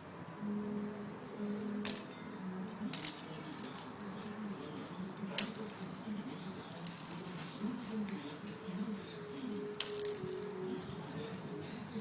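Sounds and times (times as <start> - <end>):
sharp clicks with light jingle: 0.0 - 8.4, 9.2 - 11.8.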